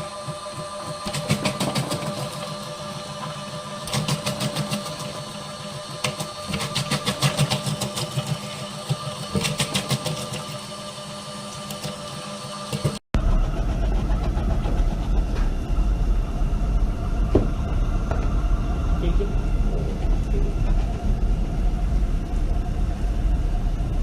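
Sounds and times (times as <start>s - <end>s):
motor hum: 0.0s - 24.0s.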